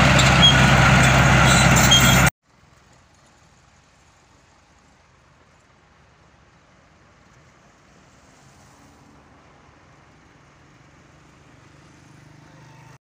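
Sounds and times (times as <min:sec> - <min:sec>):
vehicle engine hum: 0:00.0 - 0:13.0
background noise: 0:02.4 - 0:13.0.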